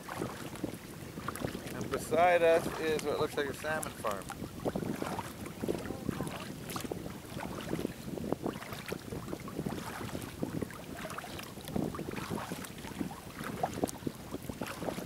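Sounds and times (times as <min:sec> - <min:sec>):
water slapping against kayak: 0:00.0 - 0:15.0
wind on microphone: 0:00.0 - 0:15.0.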